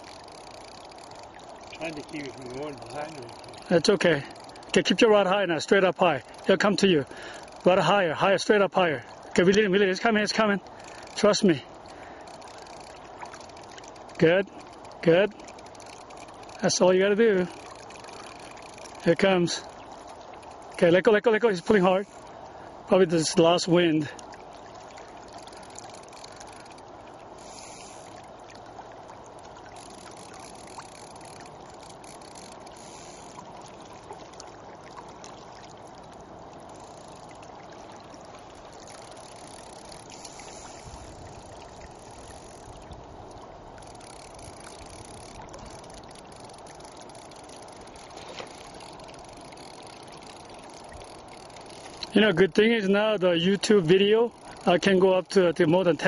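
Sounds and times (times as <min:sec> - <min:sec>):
faint ticks: 0:00.0 - 0:07.9, 0:08.8 - 0:22.7, 0:23.9 - 0:52.6, 0:53.2 - 0:55.5
river water rushing: 0:00.0 - 0:56.0.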